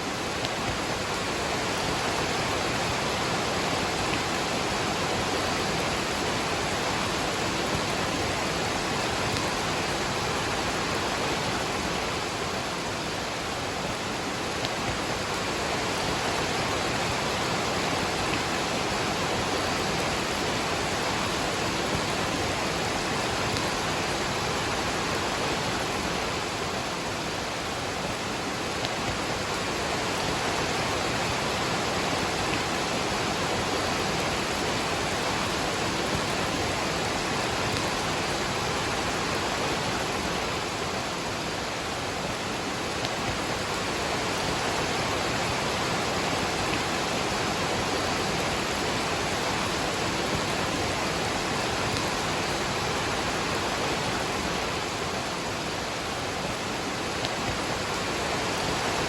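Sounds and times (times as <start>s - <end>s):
rain falling: 0.0s - 59.0s
waterfall rushing: 0.0s - 59.0s.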